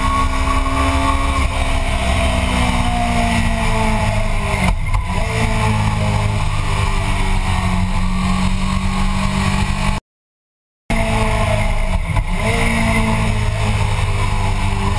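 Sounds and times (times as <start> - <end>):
motorcycle engine running hard: 0.0 - 10.0, 10.9 - 14.9.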